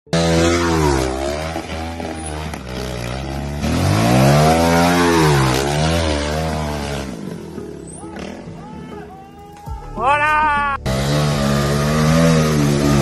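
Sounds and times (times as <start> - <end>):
motorcycle engine revving: 0.1 - 8.6, 10.8 - 13.0.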